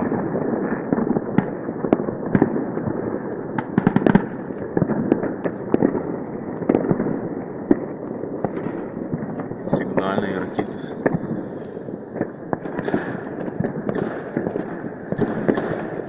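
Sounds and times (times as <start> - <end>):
distant fireworks bangs: 0.0 - 16.0
sharp firecracker cracks: 0.0 - 16.0.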